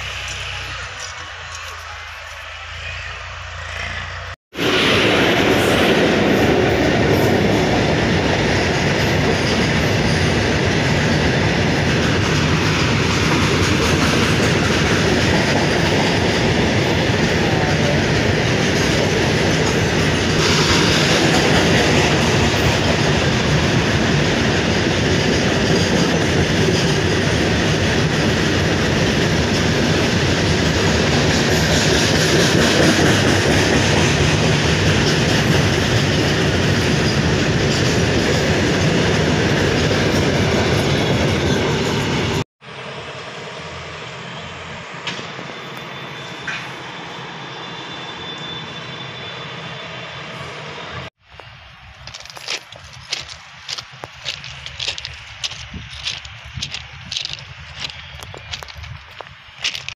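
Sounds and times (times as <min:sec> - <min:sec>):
train wheels rumbling on rails: 0:00.0 - 0:42.5, 0:50.6 - 0:59.9.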